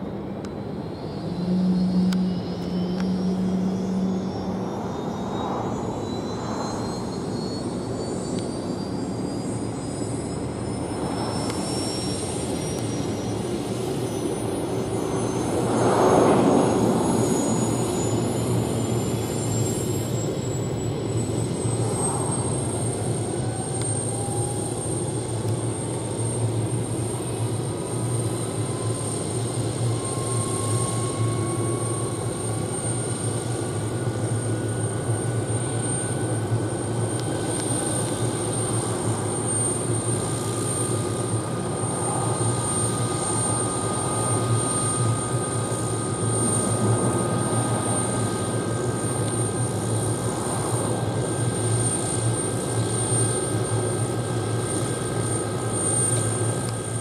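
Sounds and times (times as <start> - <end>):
helicopter turbine whine: 0.0 - 57.0
lower whine rising: 0.0 - 57.0
steady low hum: 0.0 - 57.0.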